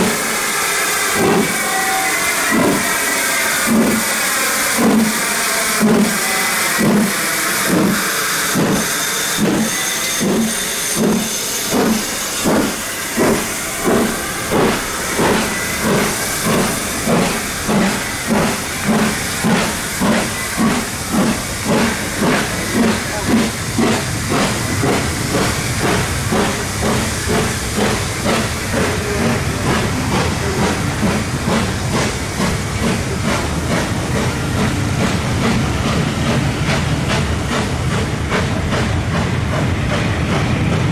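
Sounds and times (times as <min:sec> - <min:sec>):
moving train rumble: 0:00.0 - 0:40.9
steam hissing: 0:00.0 - 0:40.9
steam locomotive exhaust chuffs: 0:00.0 - 0:40.9.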